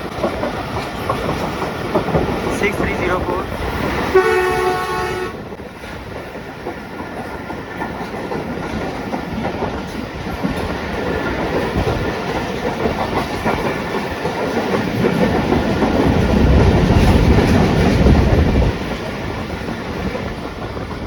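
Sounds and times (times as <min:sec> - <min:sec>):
train wheels clattering on rails: 0:00.0 - 0:21.0.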